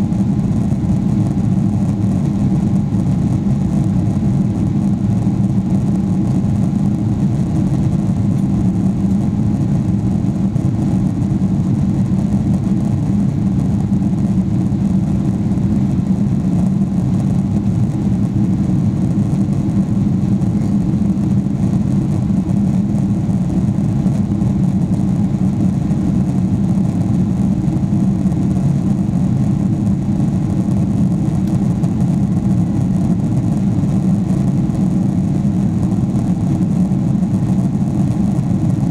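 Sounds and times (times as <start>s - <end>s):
airplane cabin noise in flight: 0.0s - 38.9s.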